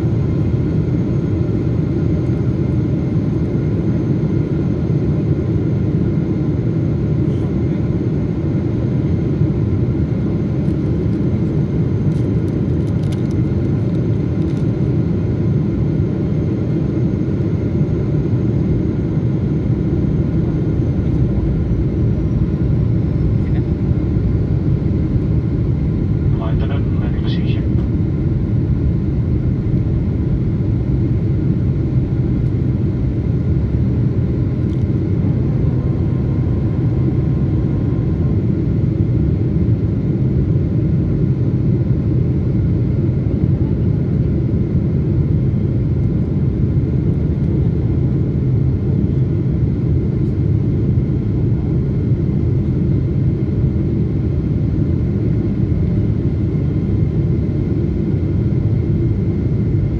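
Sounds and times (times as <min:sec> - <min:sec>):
faint steady whining tones: 0:00.0 - 0:59.9
jet engines and airflow rumble: 0:00.0 - 0:59.9.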